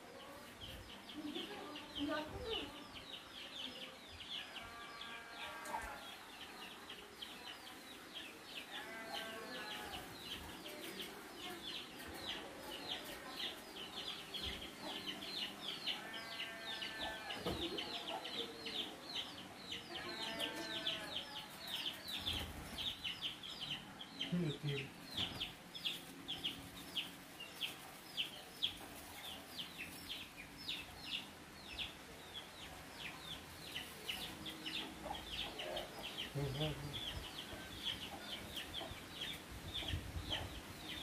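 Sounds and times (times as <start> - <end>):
chickens clucking: 4.3 - 41.0.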